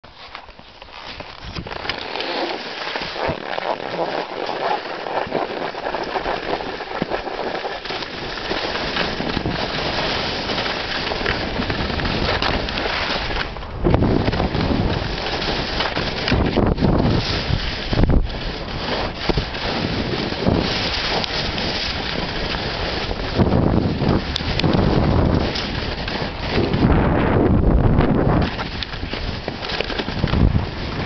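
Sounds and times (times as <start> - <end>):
skis scraping over snow: 0.0 - 31.0
wind buffeting microphone: 1.3 - 31.0.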